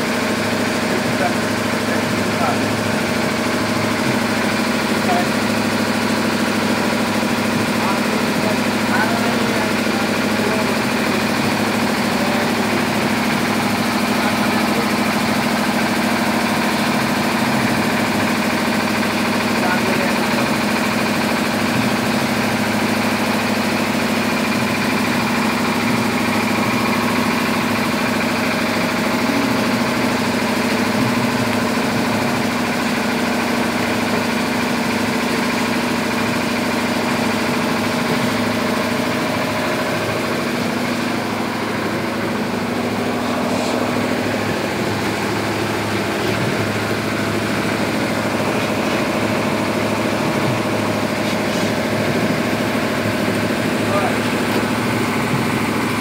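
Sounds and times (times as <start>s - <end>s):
grading machine humming: 0.0s - 56.0s.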